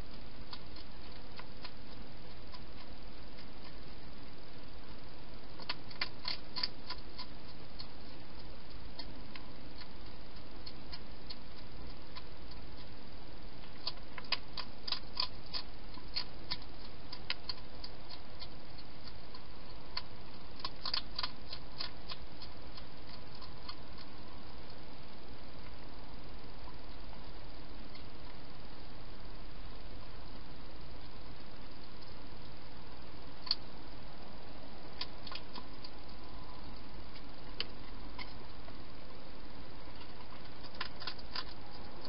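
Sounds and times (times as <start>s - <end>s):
hedgehog crunching food: 0.0s - 42.0s
steady hiss: 0.0s - 42.0s.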